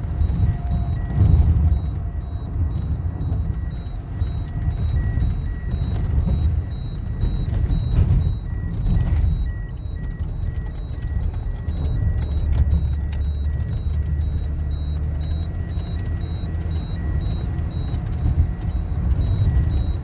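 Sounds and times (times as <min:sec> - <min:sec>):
car road and engine rumble: 0:00.0 - 0:20.0
high electronic beeps: 0:00.0 - 0:20.0.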